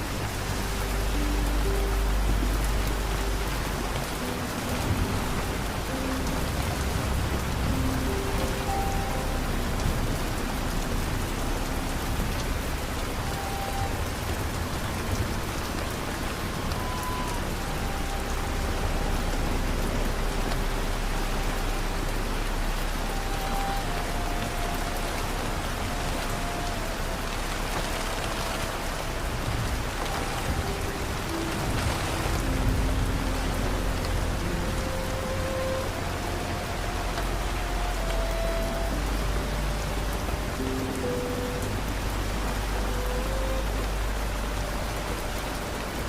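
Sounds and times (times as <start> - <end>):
low rumble: 0.0 - 46.0
soft relaxation music: 0.0 - 46.0
steady rain hiss: 0.0 - 46.0.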